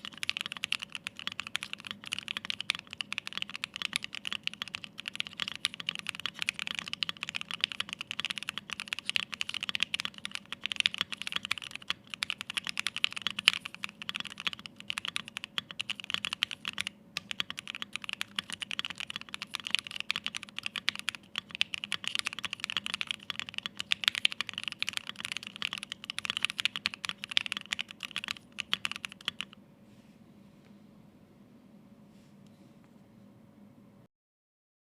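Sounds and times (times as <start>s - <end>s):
fast typing on mechanical keyboard: 0.0s - 29.6s.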